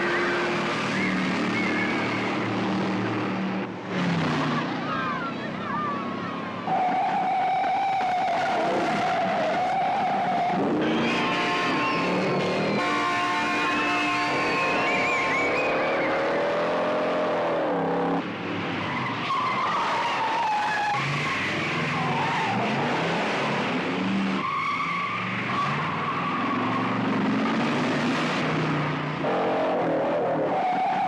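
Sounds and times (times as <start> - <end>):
car engines revving hard: 0.0 - 31.0.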